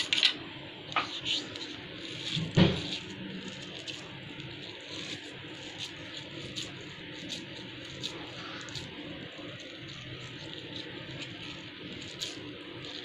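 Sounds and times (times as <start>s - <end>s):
soft squishing of moist mixture: 0.0s - 13.0s.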